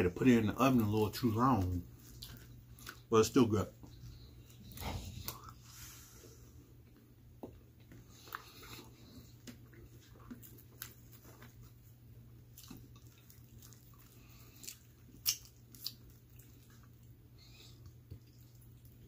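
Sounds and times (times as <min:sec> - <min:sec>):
chewing and crunching pizza crust: 0:00.0 - 0:05.9, 0:06.7 - 0:19.0
low steady hum: 0:00.0 - 0:19.0.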